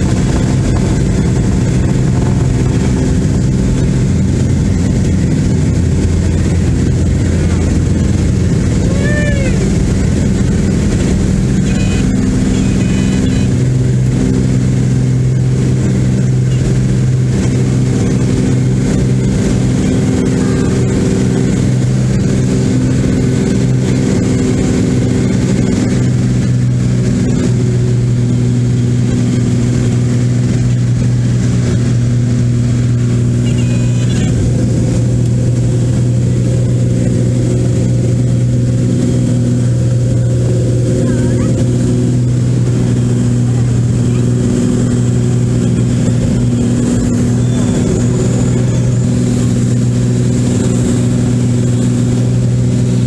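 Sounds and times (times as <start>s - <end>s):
plane engine drone in cabin: 0.0s - 53.0s.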